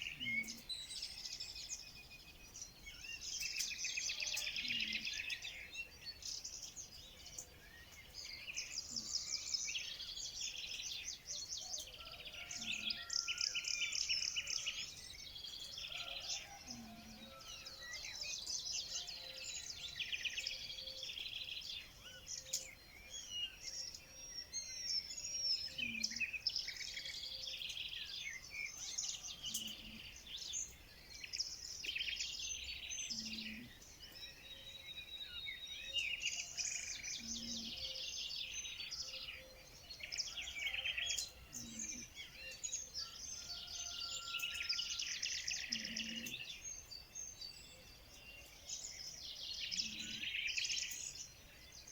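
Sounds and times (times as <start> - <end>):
small birds chirping and trilling: 0.0 - 51.9.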